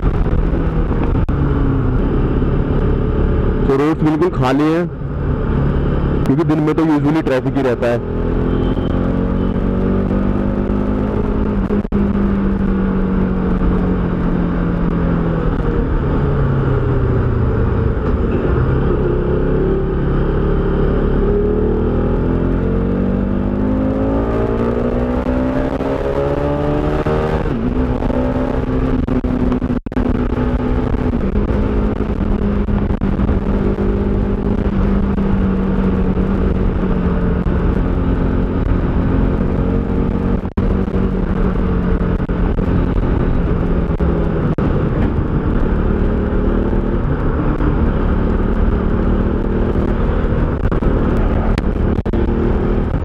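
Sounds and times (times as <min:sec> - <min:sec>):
wind rushing over microphone: 0:00.0 - 0:07.0, 0:08.0 - 0:53.0
motorcycle engine running: 0:08.0 - 0:53.0.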